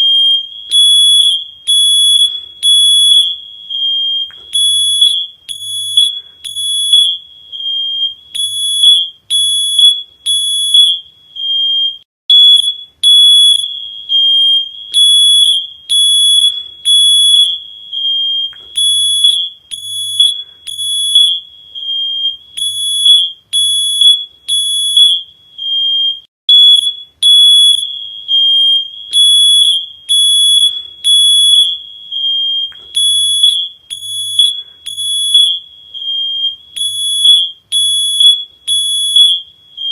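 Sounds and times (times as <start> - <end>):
electronic alarm beeping: 0.0 - 39.9.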